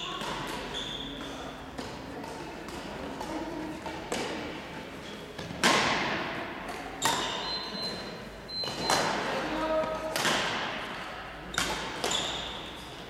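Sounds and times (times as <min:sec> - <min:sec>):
racket smacking shuttlecock: 0:00.1 - 0:04.6, 0:05.3 - 0:07.5, 0:08.6 - 0:13.0.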